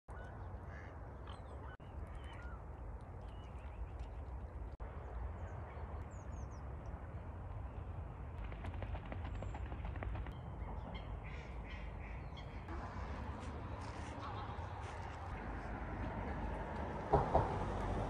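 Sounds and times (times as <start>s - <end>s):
wild birds chirping: 0.1s - 18.0s.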